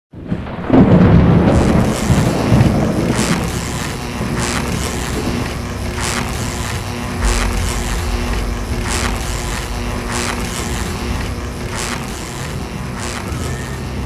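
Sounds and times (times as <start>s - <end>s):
thunder boom rumbling: 0.2s - 12.8s
crackling electric zaps: 0.6s - 14.0s.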